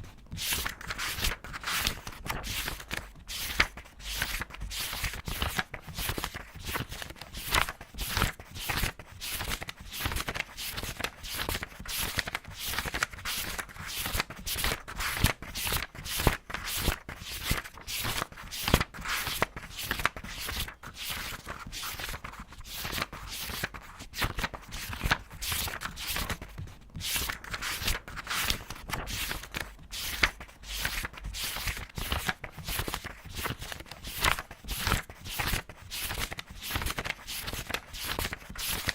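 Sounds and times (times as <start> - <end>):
paper pages turning: 0.1 - 38.9.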